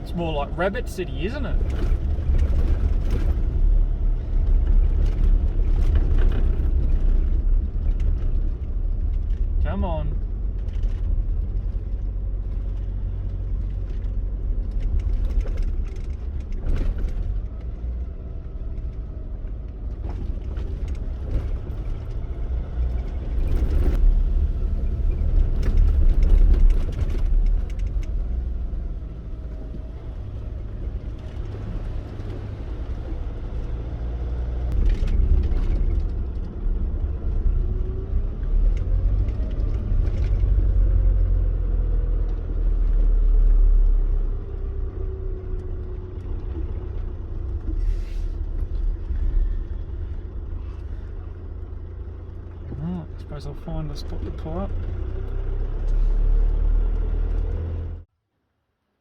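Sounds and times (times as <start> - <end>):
engine and tyre rumble: 0.0 - 59.0
knocks and rattles over bumps: 1.3 - 53.2.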